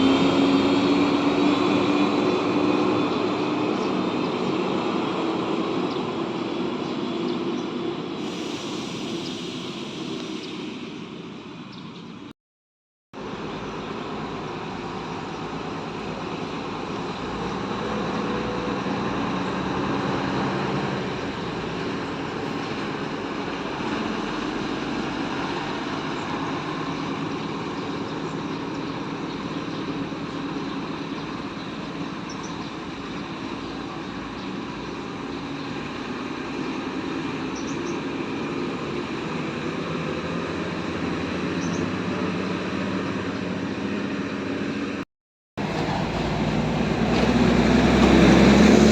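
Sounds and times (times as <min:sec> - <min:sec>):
bus engine running: 0:00.0 - 0:12.3, 0:13.2 - 0:45.0, 0:45.6 - 0:48.9.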